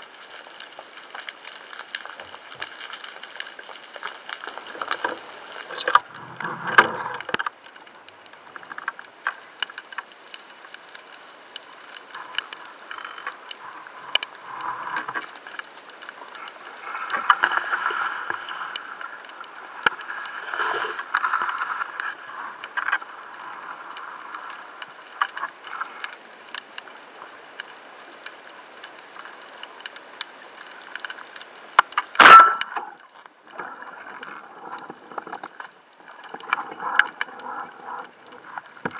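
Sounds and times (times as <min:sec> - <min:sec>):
underwater clicks and crackles: 0:00.0 - 0:38.9.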